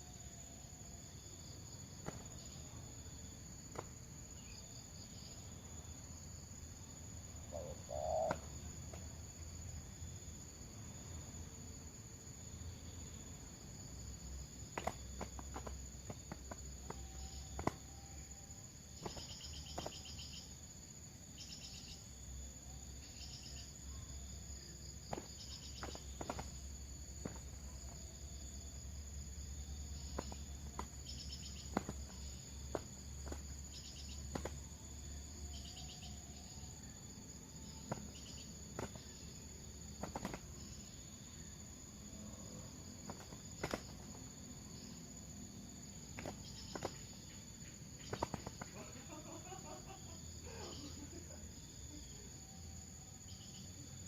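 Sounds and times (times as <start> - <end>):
trilled insect chirps: 0.0 - 11.3, 12.3 - 52.3, 53.2 - 54.0.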